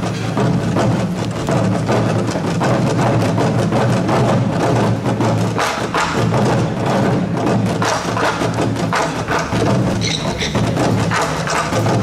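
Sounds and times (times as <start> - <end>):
drum strikes: 0.0 - 12.0.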